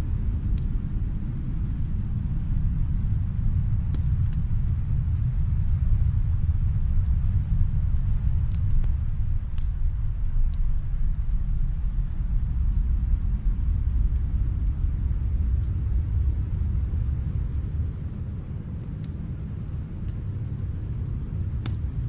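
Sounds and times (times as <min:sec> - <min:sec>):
fire crackling and popping: 0:00.0 - 0:22.0
low rumble: 0:00.0 - 0:22.0.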